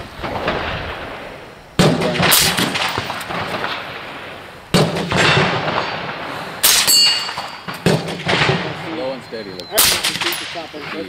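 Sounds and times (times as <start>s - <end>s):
rifle shots with echo: 0.2s - 11.0s.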